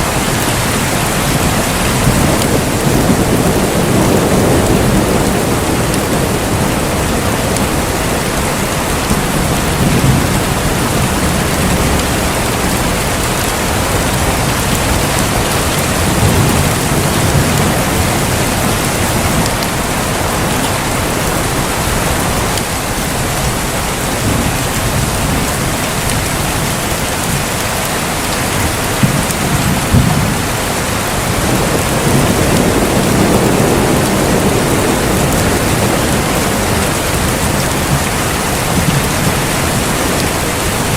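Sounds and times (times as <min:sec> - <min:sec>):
heavy rain pouring: 0:00.0 - 0:40.9
thunder rumbling: 0:00.0 - 0:40.9.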